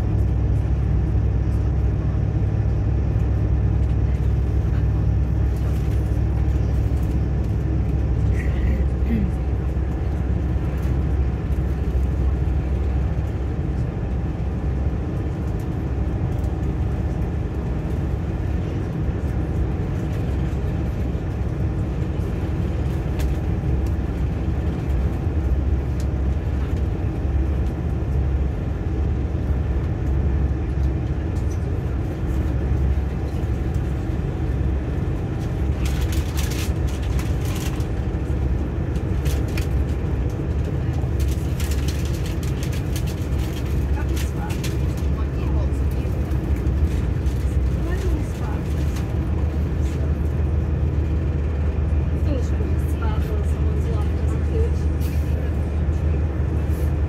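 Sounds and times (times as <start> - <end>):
diesel train engines rumbling: 0.0 - 57.0.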